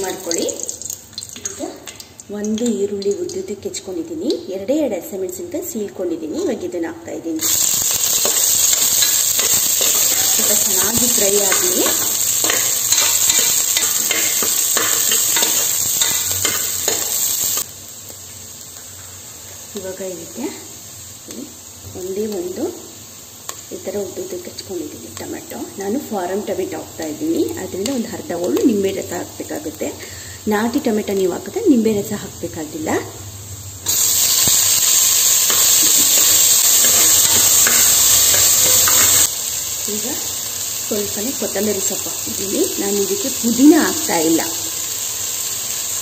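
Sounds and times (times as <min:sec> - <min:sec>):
onions sizzling in hot oil: 0:00.0 - 0:46.0.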